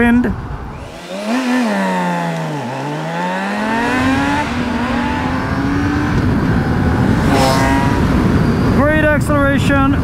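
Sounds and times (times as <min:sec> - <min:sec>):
motorcycle engine accelerating: 0:00.6 - 0:09.0.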